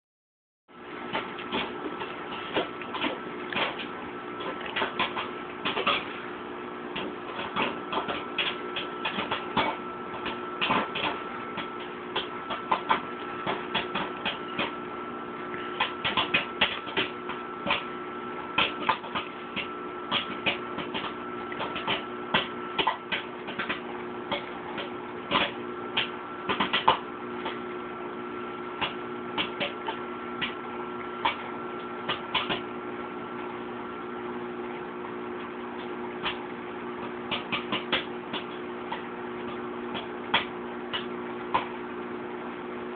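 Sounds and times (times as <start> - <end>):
microwave oven hum: 0.7 - 42.9
popcorn popping: 0.8 - 42.9.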